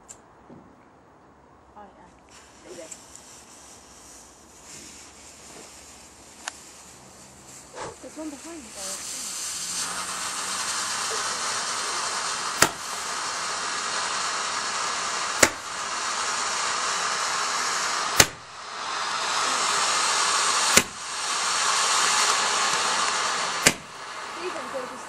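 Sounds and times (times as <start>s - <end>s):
firework bangs: 2.3s - 25.0s
firework hissing: 2.3s - 25.0s.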